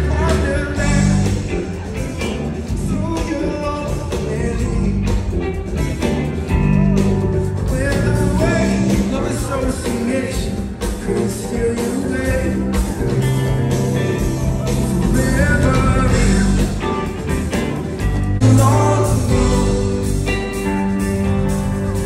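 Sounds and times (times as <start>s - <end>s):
vocals: 0.0s - 20.8s
live rock band playing: 0.0s - 22.0s.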